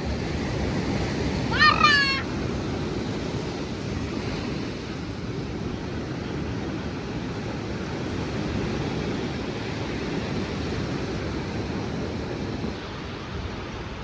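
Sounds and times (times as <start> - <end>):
waves on the shore: 0.0 - 14.0
wind on the microphone: 0.0 - 14.0.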